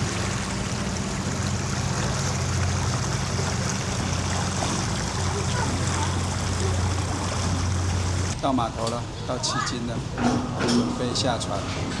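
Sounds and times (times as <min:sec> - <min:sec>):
low hum from boat: 0:00.0 - 0:12.0
water rushing along hull: 0:00.0 - 0:12.0.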